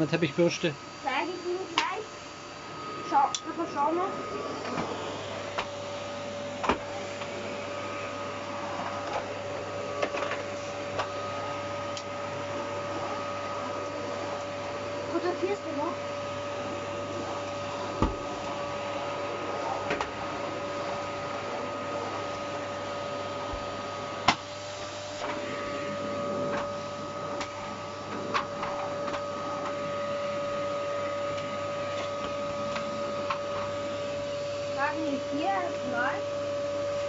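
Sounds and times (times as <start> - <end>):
vacuum cleaner whining: 0.0 - 37.0.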